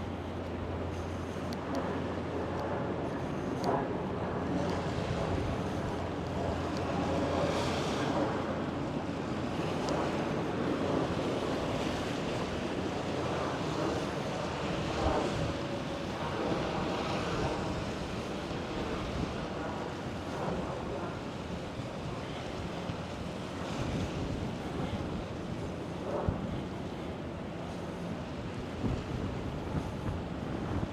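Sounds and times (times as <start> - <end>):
wind: 0.0 - 30.9.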